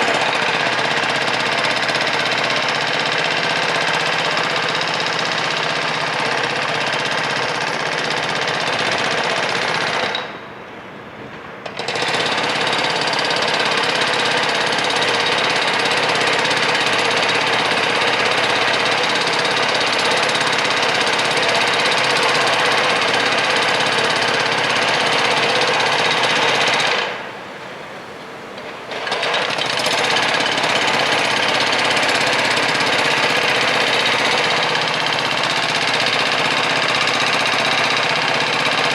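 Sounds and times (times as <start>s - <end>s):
jackhammer running: 0.0s - 10.4s, 11.6s - 38.9s.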